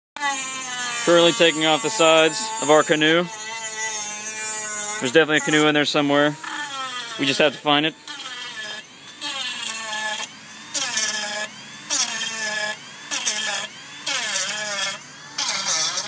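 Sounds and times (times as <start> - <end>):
rotary tool grinding concrete: 0.2 - 16.0.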